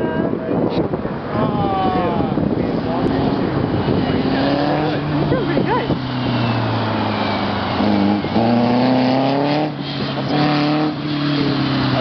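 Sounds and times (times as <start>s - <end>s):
dune buggy engine accelerating: 1.2s - 12.0s.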